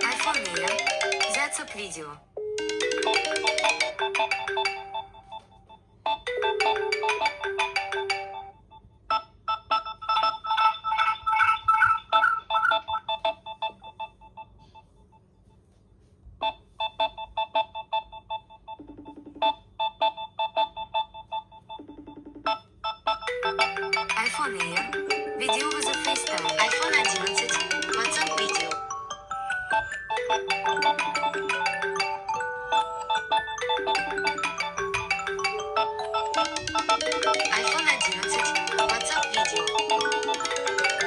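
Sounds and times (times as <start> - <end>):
phone ringtone melody: 0.0 - 15.2, 16.4 - 41.0.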